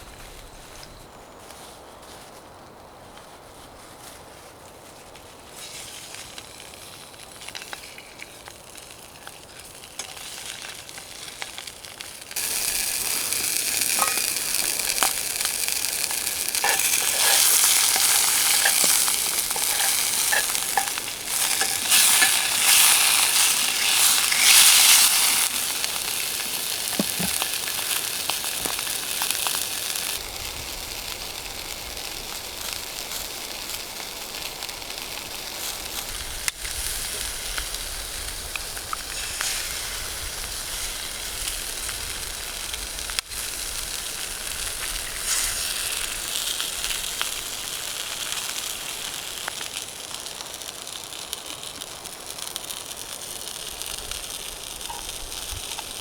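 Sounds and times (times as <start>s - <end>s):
food sizzling in a pan: 5.5s - 56.0s.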